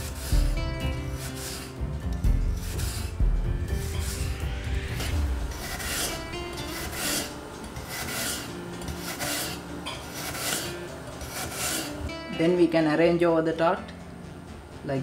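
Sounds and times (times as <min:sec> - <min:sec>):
knife slicing apple: 0:00.0 - 0:12.1.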